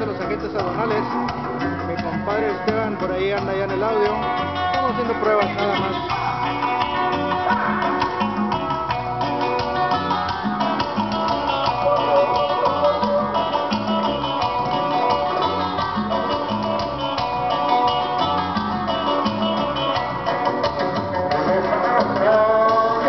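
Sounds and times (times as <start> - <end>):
guitar music over loudspeakers: 0.0 - 23.0.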